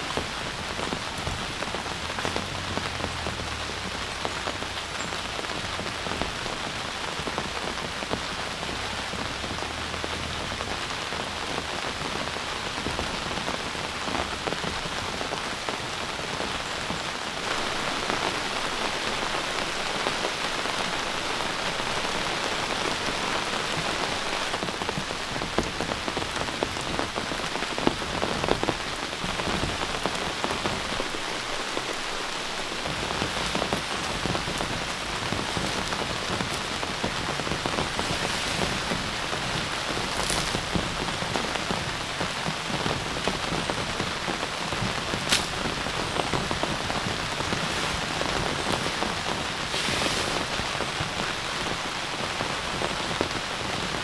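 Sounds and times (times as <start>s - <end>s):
heavy rain patter: 0.0s - 54.0s.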